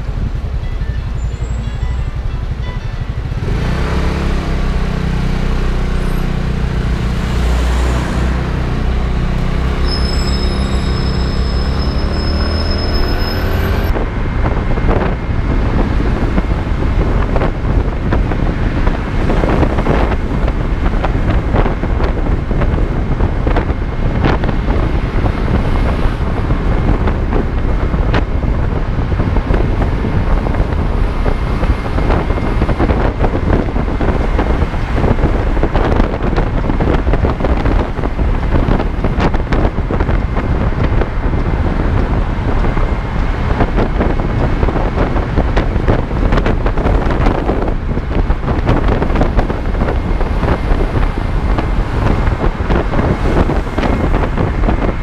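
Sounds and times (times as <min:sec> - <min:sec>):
wind buffeting microphone: 0:00.0 - 0:55.0
motorcycle engine accelerating: 0:03.0 - 0:55.0.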